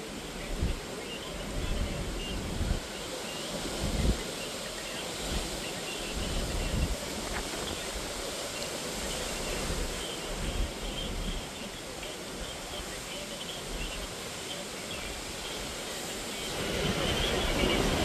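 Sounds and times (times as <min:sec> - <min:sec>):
strong wind hissing: 0:00.0 - 0:18.0
wind gusts buffeting microphone: 0:00.0 - 0:18.0.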